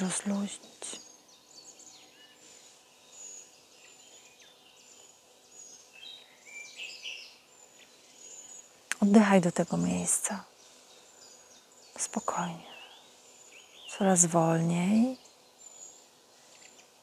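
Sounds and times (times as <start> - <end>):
faint birdsong chirps and whistles: 0.0 - 17.0.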